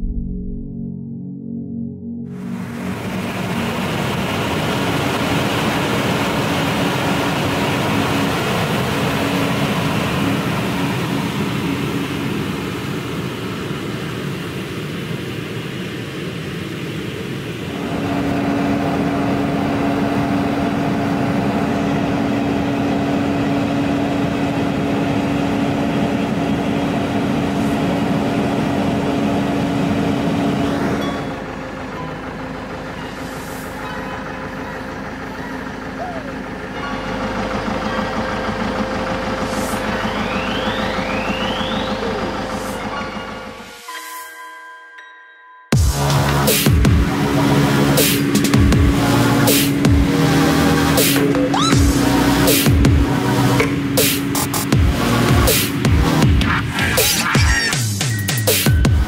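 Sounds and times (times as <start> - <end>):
noisy machine running: 2.3 - 43.8, 45.8 - 59.0
tractor engine hum: 2.3 - 43.8, 45.8 - 59.0.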